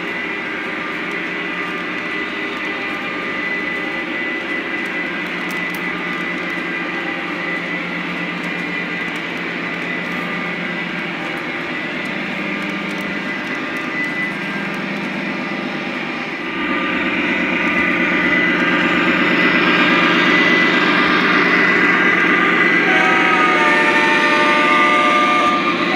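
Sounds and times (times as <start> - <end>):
diesel engine hum: 0.0 - 25.9
model train rolling on track: 0.0 - 25.9.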